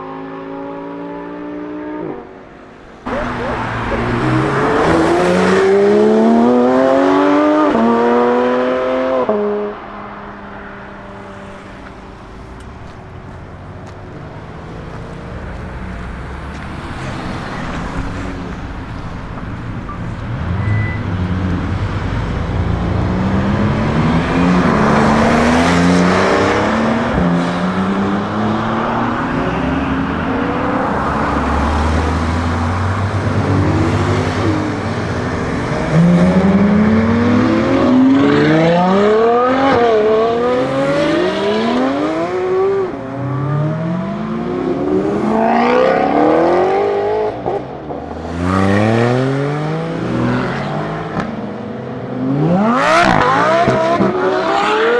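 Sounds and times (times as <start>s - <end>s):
sports car accelerating with upshifts: 3.0s - 12.7s, 13.8s - 54.9s.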